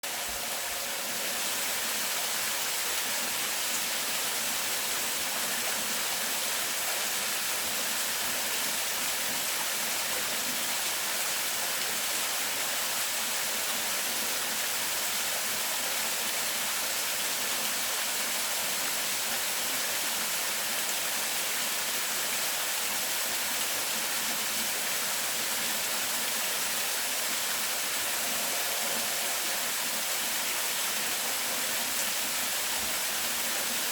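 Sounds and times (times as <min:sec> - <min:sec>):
rushing water: 0:00.0 - 0:33.9.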